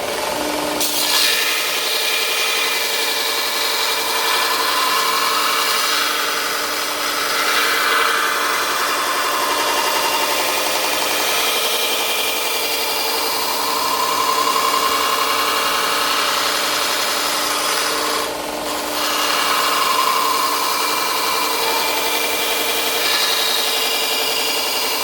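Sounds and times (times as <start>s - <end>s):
belt grinder grinding steel blade: 0.0s - 25.0s.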